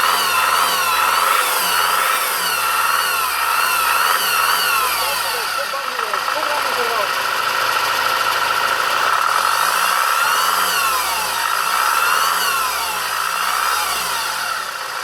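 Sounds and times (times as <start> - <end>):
diesel engine revving: 0.0 - 15.0
engine whine: 0.0 - 15.0.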